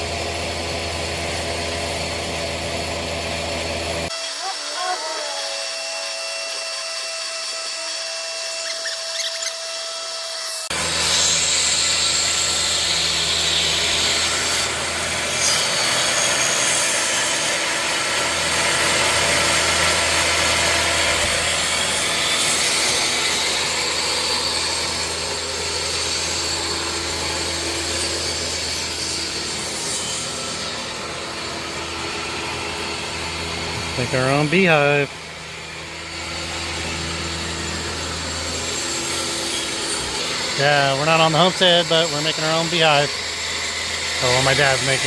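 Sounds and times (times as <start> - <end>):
power tool rasping wood: 4.0 - 45.0.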